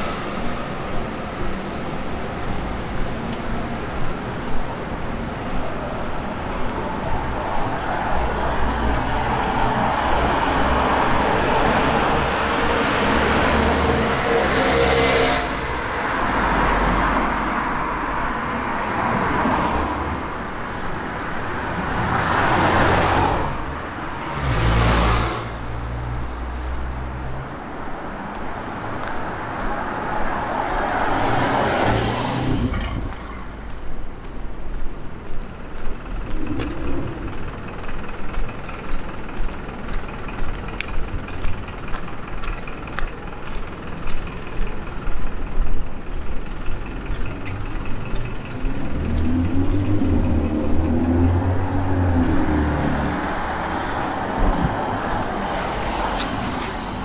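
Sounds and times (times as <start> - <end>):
roadway hum: 0.0 - 57.0
vehicles passing: 0.0 - 57.0.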